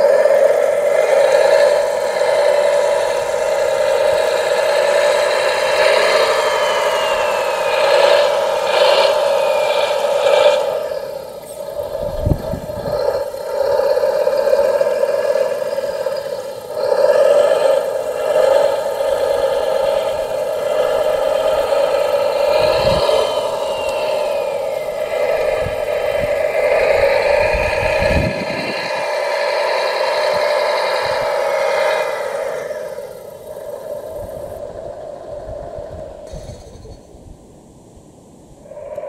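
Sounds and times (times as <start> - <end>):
toy loader motor whining: 0.0 - 34.6.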